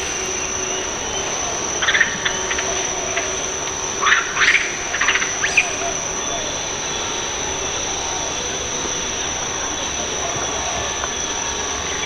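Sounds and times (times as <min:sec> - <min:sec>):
insect drone: 0:00.0 - 0:12.0.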